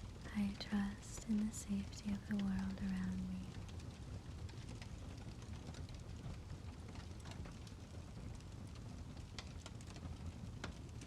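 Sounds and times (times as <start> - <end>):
rain falling: 0.0 - 11.0
raindrops ticking: 0.0 - 11.0.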